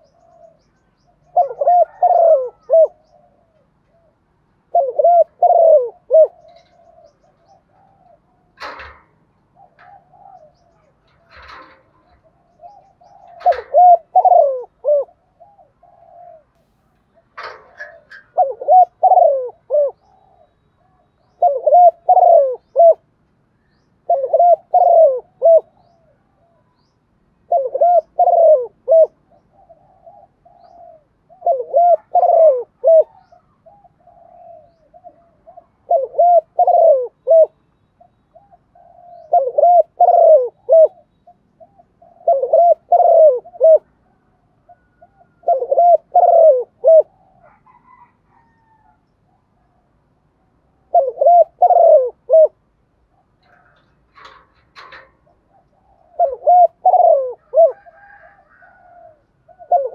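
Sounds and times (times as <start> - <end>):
dove cooing: 0.0 - 23.1, 23.7 - 59.9.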